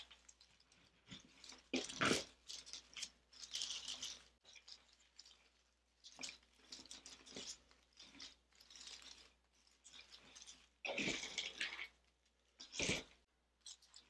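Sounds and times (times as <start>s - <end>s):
artificial leaves rustling and crackling: 0.0s - 11.4s.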